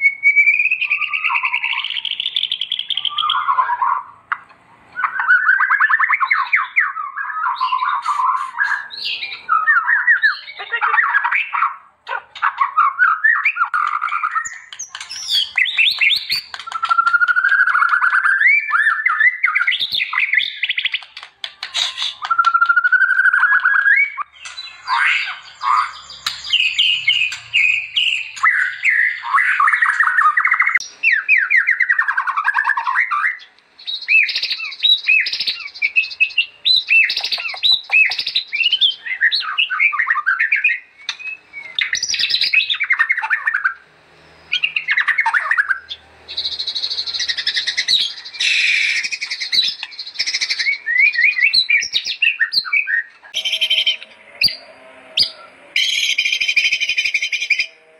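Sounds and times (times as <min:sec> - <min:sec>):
bird singing whistled song: 0:00.0 - 0:04.1, 0:05.0 - 0:11.8, 0:12.4 - 0:57.8.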